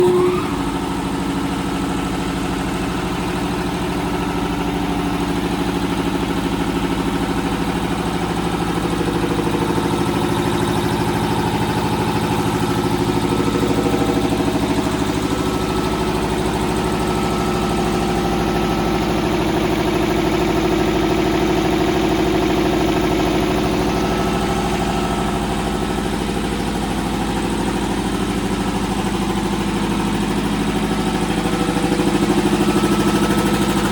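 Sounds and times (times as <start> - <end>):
air compressor running: 0.0 - 33.9.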